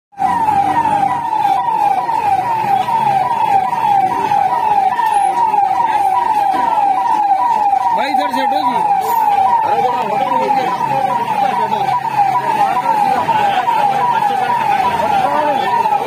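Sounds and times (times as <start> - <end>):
fire engine siren: 0.1 - 16.0.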